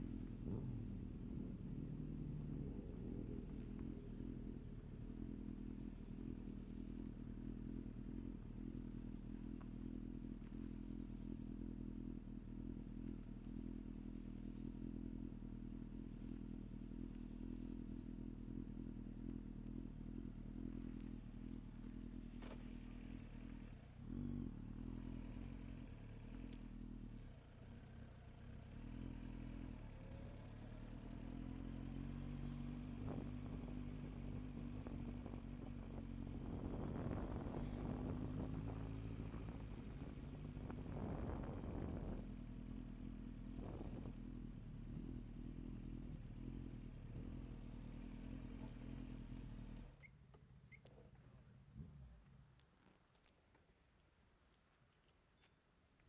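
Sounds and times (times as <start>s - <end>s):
vehicle engine running: 0.0s - 50.1s.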